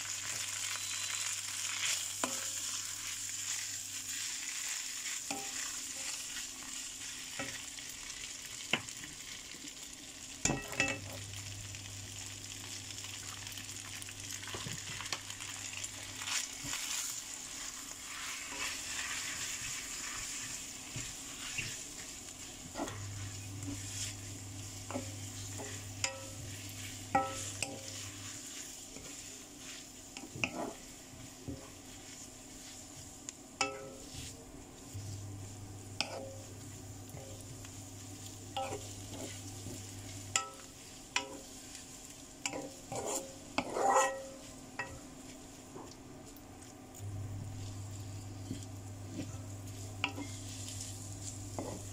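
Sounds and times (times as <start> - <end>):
food sizzling in a wok: 0.0 - 51.9.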